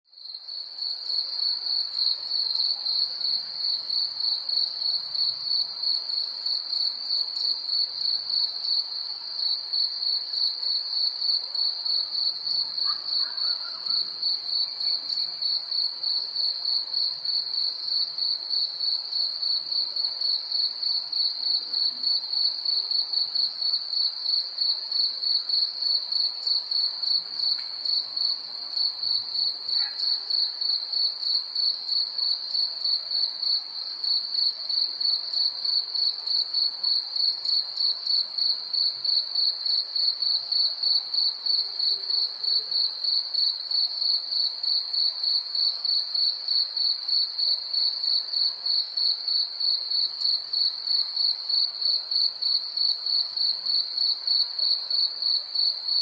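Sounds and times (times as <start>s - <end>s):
crickets chirping: 0.1s - 56.0s.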